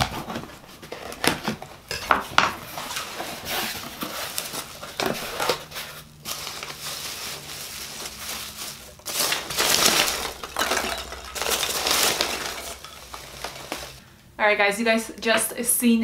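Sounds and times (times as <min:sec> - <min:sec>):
foam packing peanuts rustling: 0:00.0 - 0:14.0.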